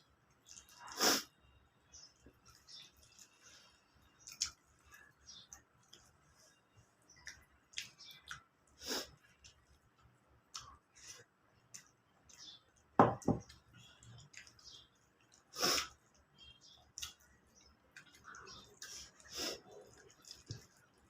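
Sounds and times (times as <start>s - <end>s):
mouth clicks and chewing: 0.3s - 1.3s, 2.0s - 21.0s.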